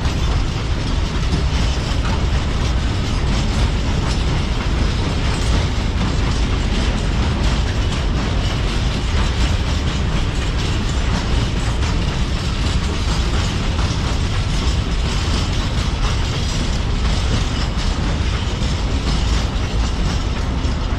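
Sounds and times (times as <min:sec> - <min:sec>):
freight train rumbling past: 0:00.0 - 0:20.9
metallic rattling: 0:00.0 - 0:20.9
wheel clatter over rail joints: 0:00.0 - 0:20.9.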